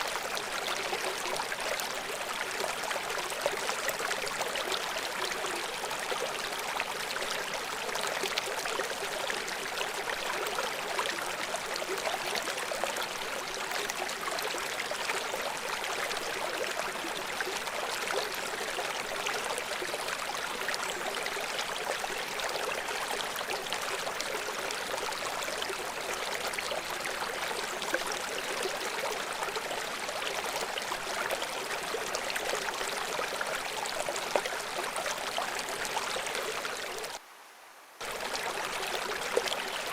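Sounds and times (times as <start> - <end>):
river water flowing over rocks: 0.0 - 37.2, 37.8 - 39.9.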